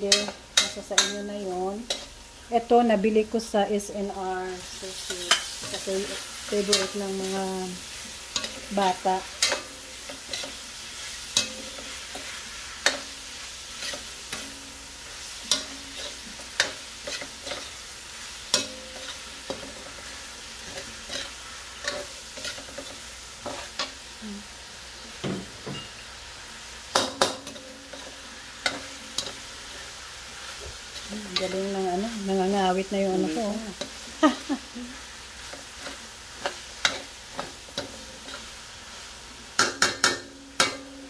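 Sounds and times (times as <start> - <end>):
metal spoon scraping a pan: 0.0 - 2.2, 4.5 - 24.0, 26.9 - 34.0, 35.4 - 41.0
meat sizzling in a wok: 0.0 - 41.0.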